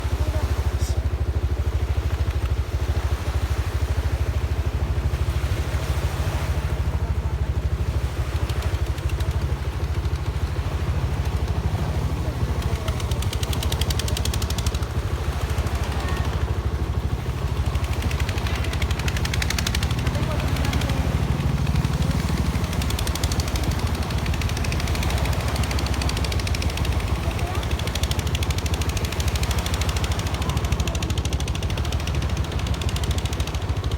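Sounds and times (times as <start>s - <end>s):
engine idling with thudding beat: 0.0s - 33.9s.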